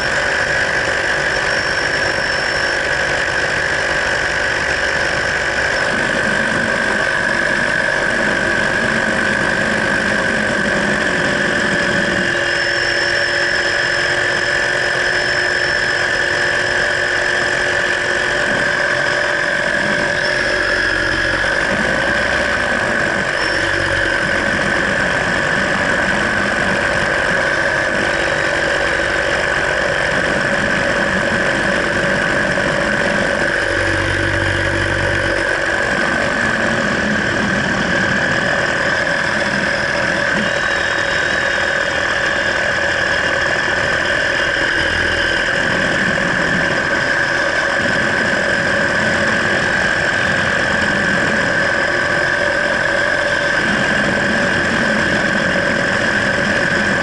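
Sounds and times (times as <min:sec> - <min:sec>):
paramotor engine drone: 0:00.0 - 0:57.0.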